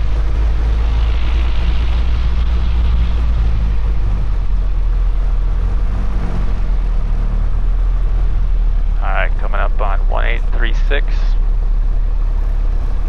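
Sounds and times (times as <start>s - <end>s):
piston engine droning: 0.0s - 13.0s.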